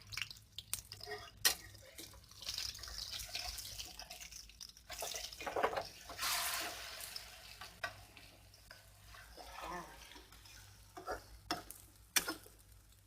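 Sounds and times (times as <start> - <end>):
omelette sizzling in pan: 0.0 - 13.0.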